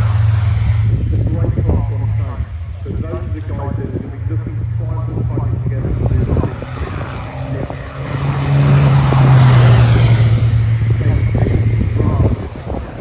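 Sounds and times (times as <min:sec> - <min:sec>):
truck diesel engine passing: 0:00.0 - 0:13.0.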